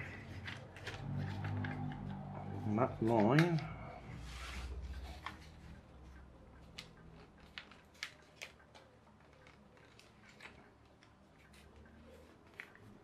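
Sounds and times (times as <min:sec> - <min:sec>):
paper folding and creasing: 0:00.0 - 0:05.8, 0:06.7 - 0:13.0.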